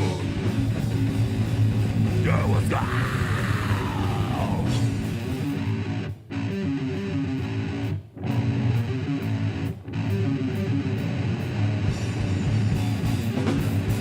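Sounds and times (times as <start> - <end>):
metal band playing: 0.0 - 14.0.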